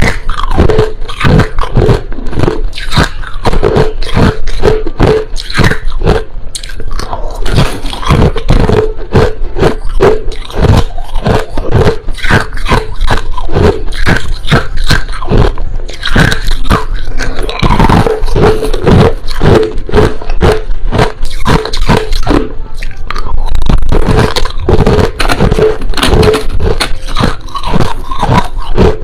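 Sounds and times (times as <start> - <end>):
crushed ice crunching in mouth: 0.0 - 29.0.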